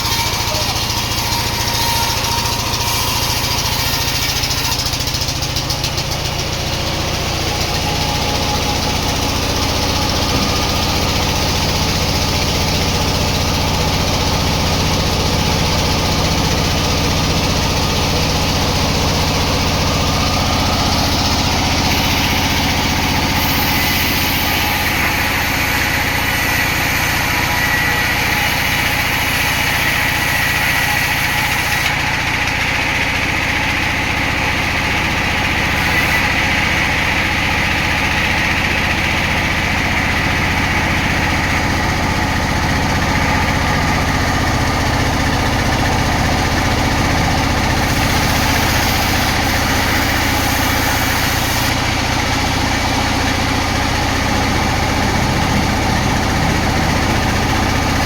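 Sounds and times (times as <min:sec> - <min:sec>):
saw cutting hiss: 0:00.0 - 0:38.5, 0:47.1 - 0:58.0
engine hum: 0:00.0 - 0:58.0.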